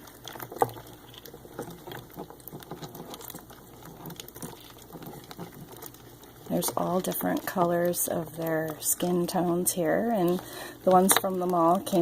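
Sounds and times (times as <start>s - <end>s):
crab shells clicking and tapping: 0.0s - 12.0s.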